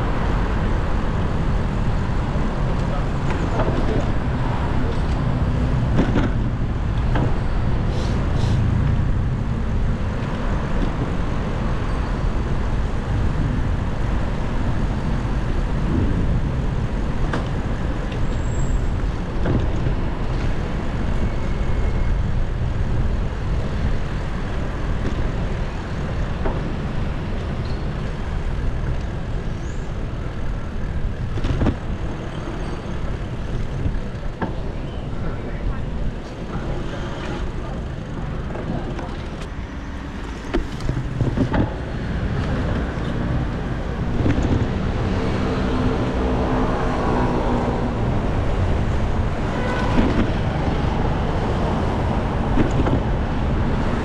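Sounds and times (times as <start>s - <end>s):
low road rumble: 0.0s - 54.0s
motor vehicles passing: 0.0s - 54.0s.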